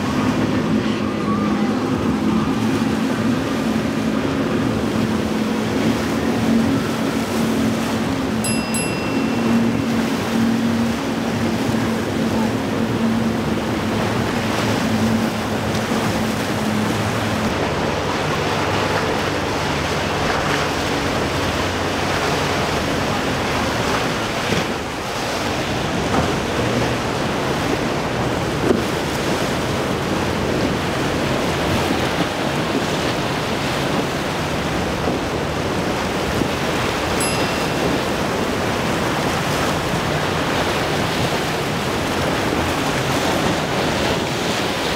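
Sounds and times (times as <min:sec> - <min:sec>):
outboard motors droning: 0:00.0 - 0:44.9
surf and breaking waves: 0:00.0 - 0:44.9.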